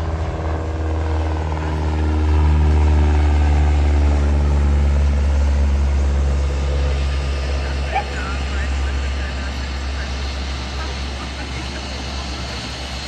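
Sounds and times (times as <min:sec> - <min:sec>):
light plane engine drone: 0:00.0 - 0:13.0.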